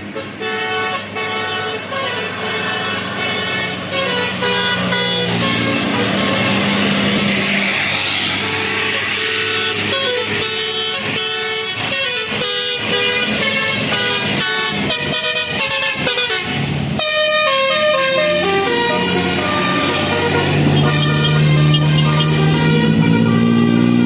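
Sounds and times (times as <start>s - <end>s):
multi-tone air horn melody: 0.1s - 24.0s.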